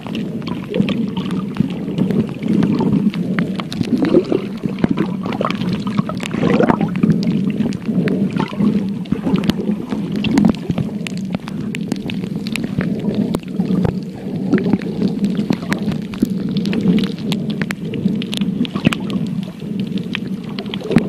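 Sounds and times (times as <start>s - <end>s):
muffled underwater gurgling: 0.0s - 21.0s
small clicks underwater: 0.0s - 21.0s.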